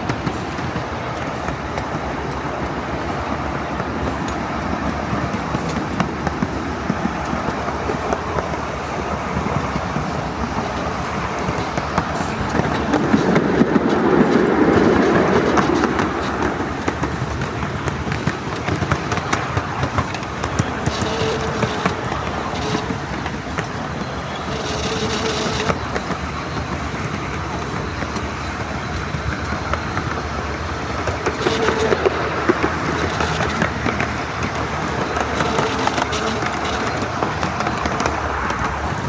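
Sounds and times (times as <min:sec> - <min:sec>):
miniature train rolling on track: 0:00.0 - 0:39.0.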